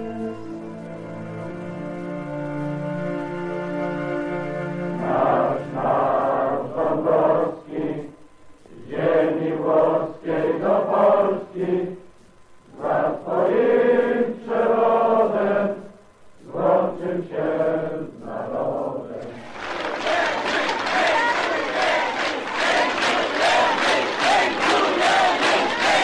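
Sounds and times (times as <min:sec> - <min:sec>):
many voices singing in unison: 0:00.0 - 0:00.9, 0:04.6 - 0:26.0.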